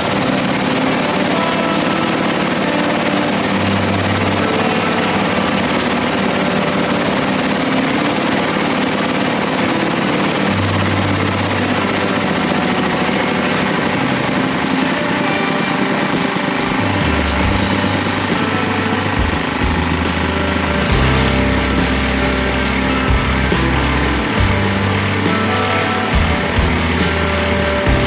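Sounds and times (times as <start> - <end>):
drilling rig engine running: 0.0 - 28.0.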